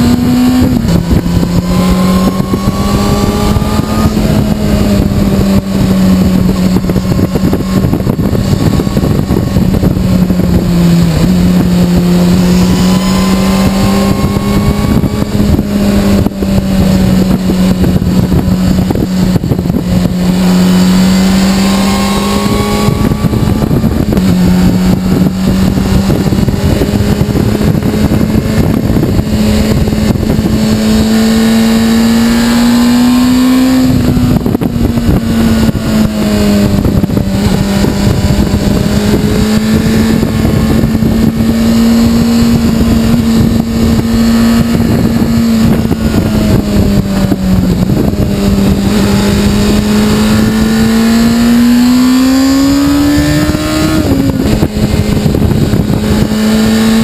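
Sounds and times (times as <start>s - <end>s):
motorcycle engine running: 0.0s - 57.0s
wind rushing: 0.0s - 57.0s.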